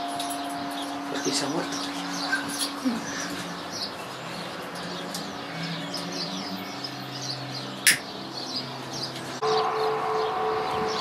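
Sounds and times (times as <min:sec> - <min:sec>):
small birds chirping: 0:00.4 - 0:09.4.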